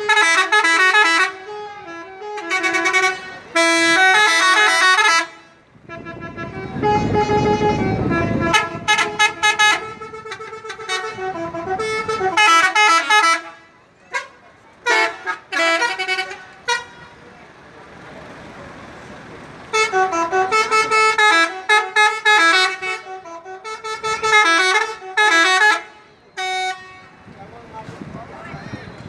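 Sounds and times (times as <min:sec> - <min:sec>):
tuned air horns playing melodies: 0:00.0 - 0:17.4, 0:19.6 - 0:27.3.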